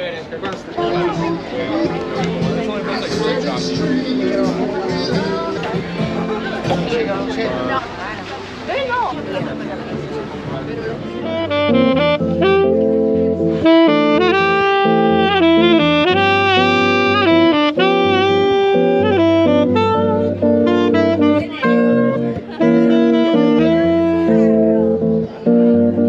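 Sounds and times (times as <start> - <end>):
saxophone melody with vibrato: 0.7 - 7.8, 10.9 - 26.0
bass notes: 0.8 - 8.0, 9.2 - 26.0.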